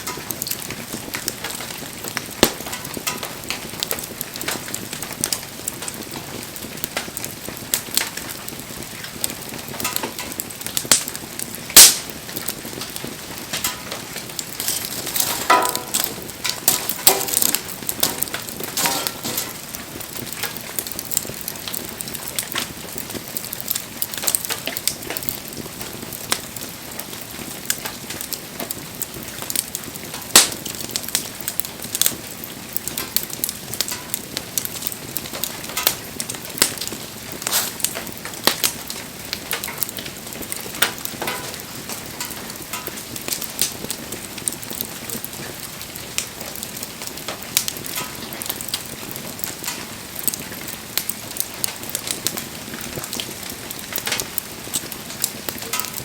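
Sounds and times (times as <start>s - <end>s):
wood bonfire crackling: 0.0s - 56.0s.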